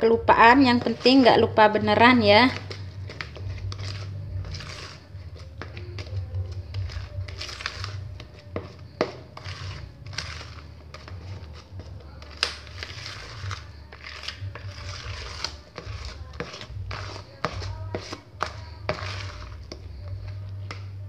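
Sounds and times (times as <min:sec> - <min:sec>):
batter squishing and scraping: 0:00.0 - 0:21.0.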